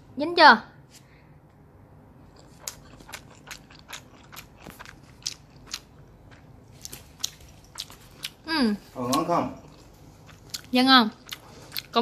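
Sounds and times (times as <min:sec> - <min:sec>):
person chewing noodles: 0:02.2 - 0:12.0.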